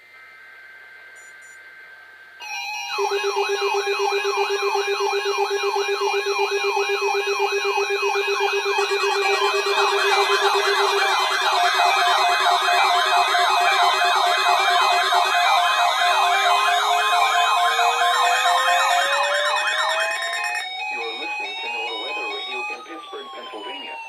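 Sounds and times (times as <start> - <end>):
electronic sirens sweeping: 2.4 - 24.0.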